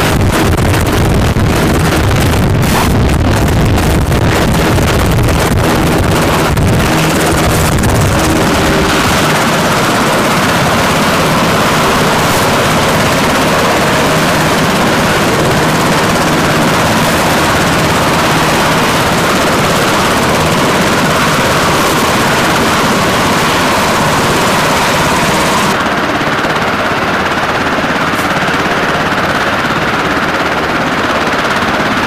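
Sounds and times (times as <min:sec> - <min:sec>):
helicopter turbine and rotor: 0:00.0 - 0:32.0.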